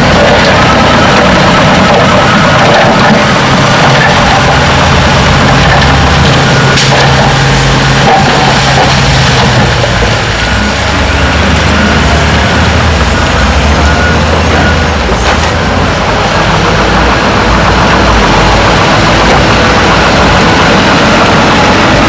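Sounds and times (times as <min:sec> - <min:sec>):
heavy machinery diesel engines: 0:00.0 - 0:22.0.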